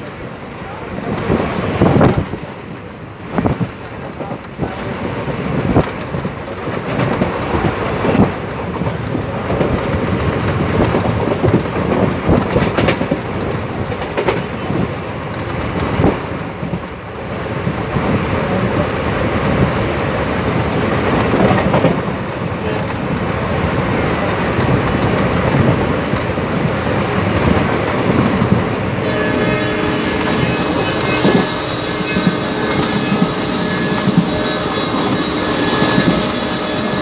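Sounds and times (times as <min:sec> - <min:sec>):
train rumble and rush: 0:00.0 - 0:37.0.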